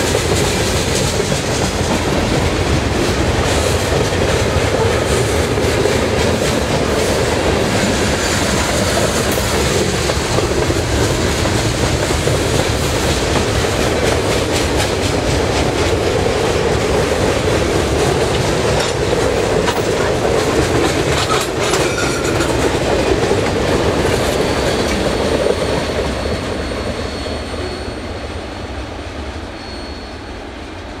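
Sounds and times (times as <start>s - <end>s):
wheels clacking over rail joints: 0.0s - 27.0s.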